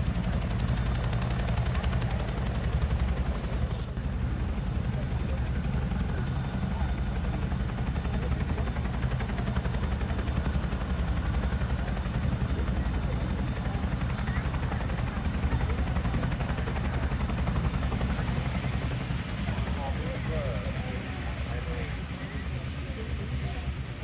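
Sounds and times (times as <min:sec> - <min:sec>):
turboprop engines running: 0:00.0 - 0:24.0.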